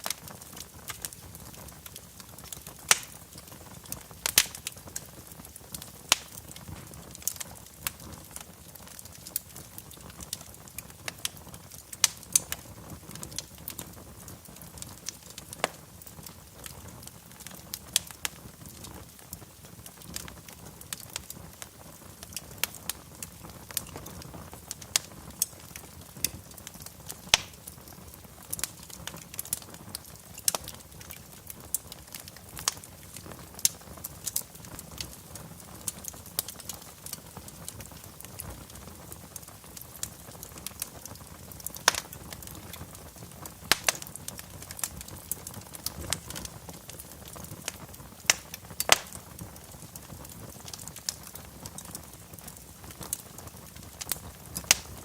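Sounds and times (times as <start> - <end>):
soft hiss of burning logs: 0.0 - 55.0
wood fire crackling and popping: 0.0 - 55.0.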